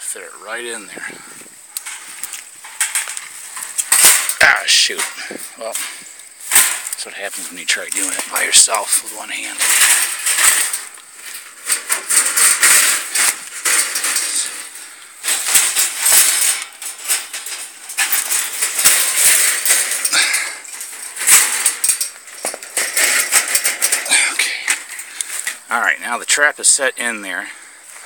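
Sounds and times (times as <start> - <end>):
wire cage trap rattling: 1.6 - 25.7.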